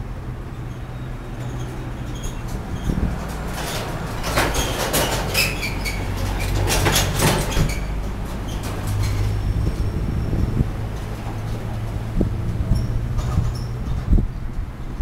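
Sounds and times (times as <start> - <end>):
cars driving on roundabout: 0.0 - 15.0
low engine hum: 0.0 - 15.0
sharp clicks and squeaks: 0.7 - 14.7.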